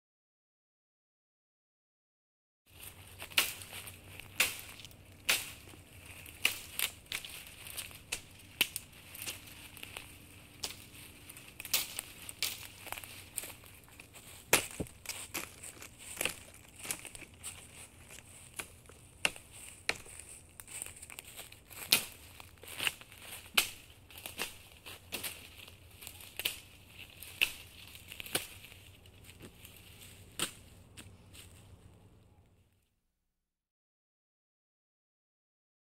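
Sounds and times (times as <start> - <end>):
footsteps crunching through brush: 2.7 - 32.2.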